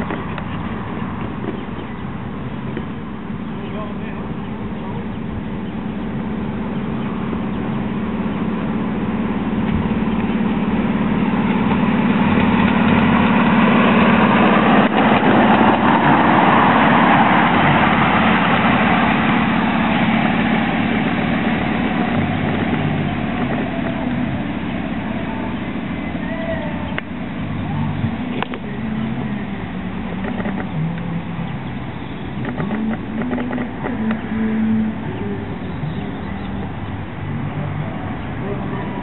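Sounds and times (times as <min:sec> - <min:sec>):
miniature locomotive running by: 0:00.0 - 0:39.0.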